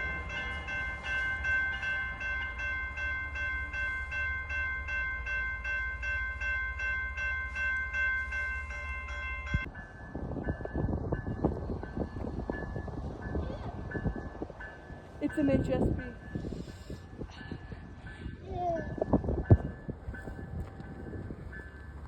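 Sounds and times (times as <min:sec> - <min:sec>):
railroad bell ringing: 0:00.0 - 0:22.0
train rumble: 0:00.0 - 0:22.0.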